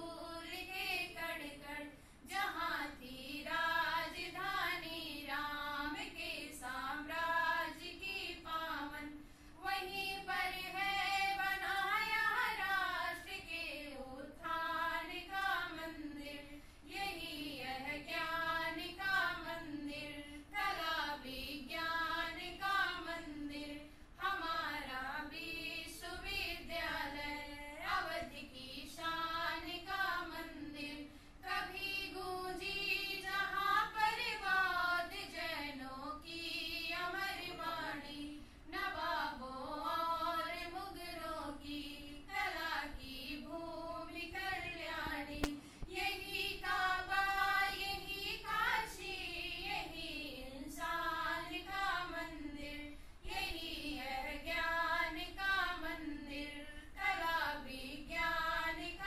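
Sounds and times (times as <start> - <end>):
women singing in unison: 0.0 - 59.0.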